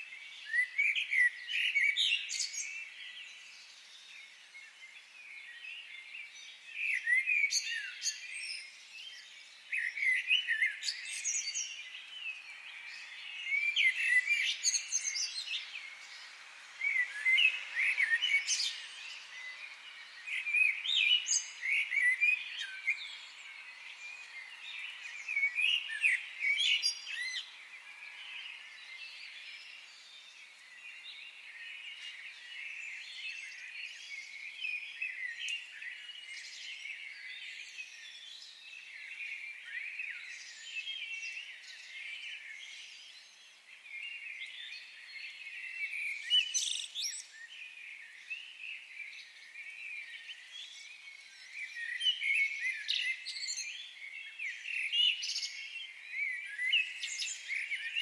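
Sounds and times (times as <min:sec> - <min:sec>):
songbirds chirping and warbling: 0:00.0 - 0:58.0.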